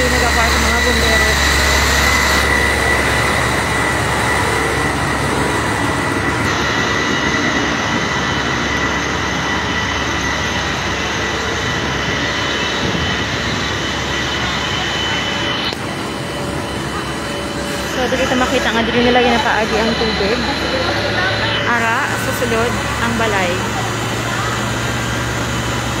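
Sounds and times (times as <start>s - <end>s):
fire truck water pumps droning: 0.0s - 26.0s.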